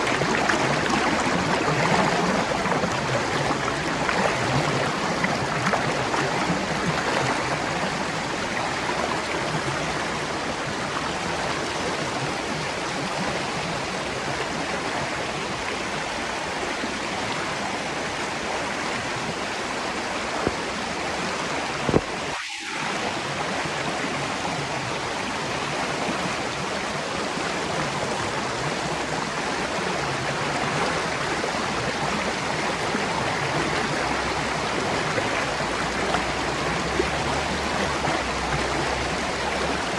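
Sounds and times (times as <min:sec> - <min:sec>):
spring water flowing: 0:00.0 - 0:39.9.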